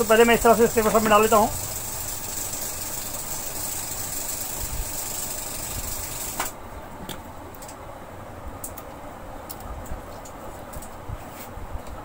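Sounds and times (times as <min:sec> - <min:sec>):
mechanical hum with high hiss: 0:00.0 - 0:12.0.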